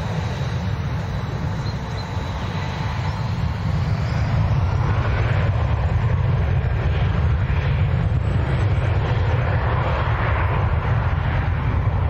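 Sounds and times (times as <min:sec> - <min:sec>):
jet engines rumbling on take-off: 0:00.0 - 0:12.0.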